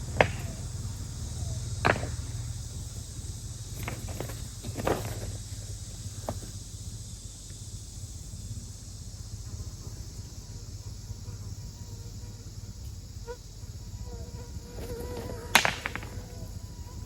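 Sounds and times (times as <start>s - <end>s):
insect hiss: 0.0s - 17.0s.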